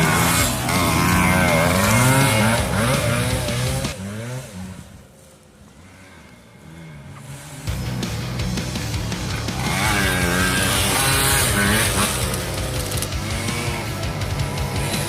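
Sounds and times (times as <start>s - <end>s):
dirt bike revving: 0.0s - 15.0s.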